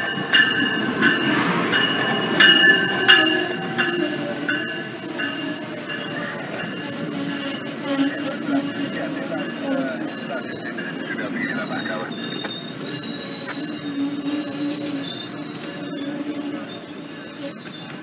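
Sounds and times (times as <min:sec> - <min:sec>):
high ringing squeal tones: 0:00.0 - 0:18.0
train coaches rumbling past: 0:00.0 - 0:18.0.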